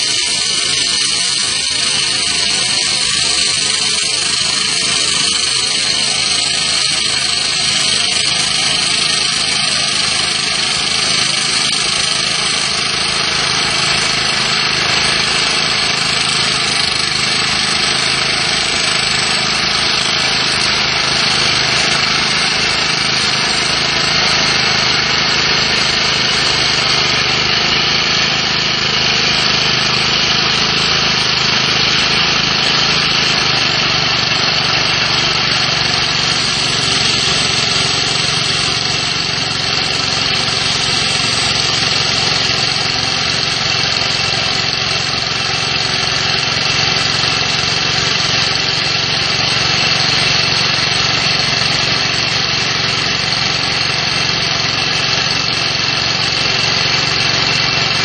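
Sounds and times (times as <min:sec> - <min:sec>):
core drill cutting concrete: 0:00.0 - 0:58.0.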